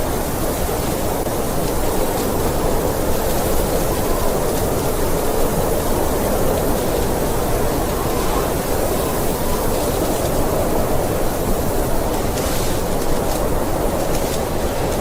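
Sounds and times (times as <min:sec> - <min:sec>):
snowstorm wind rushing: 0:00.0 - 0:15.0.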